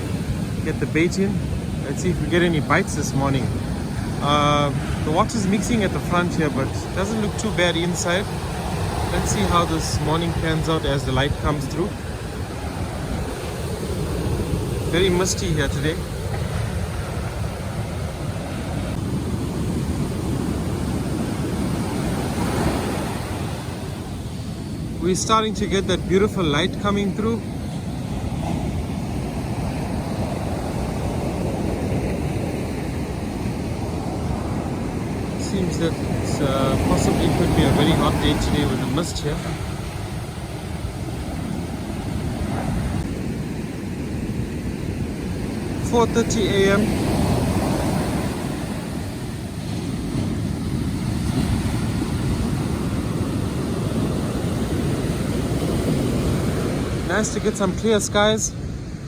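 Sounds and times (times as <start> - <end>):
ocean surf washing onto beach: 0.0 - 59.0.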